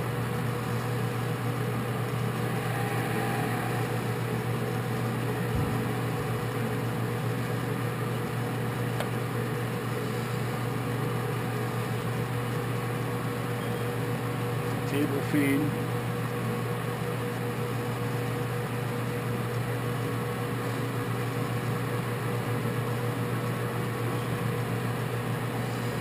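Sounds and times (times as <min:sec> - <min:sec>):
lathe motor and gear hum: 0:00.0 - 0:26.0.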